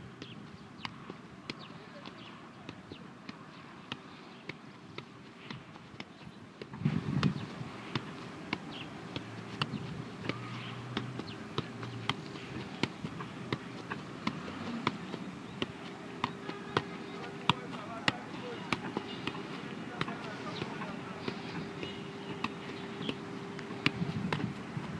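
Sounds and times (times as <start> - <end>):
football touches: 0.0 - 24.9.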